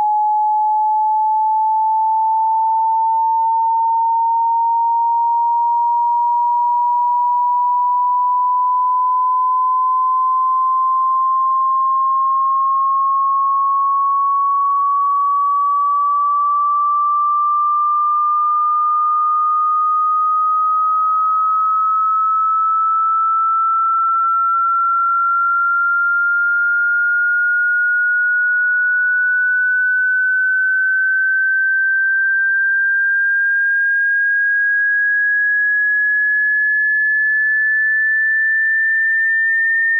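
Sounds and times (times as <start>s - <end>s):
rising sine tone sweep: 0.0s - 39.9s.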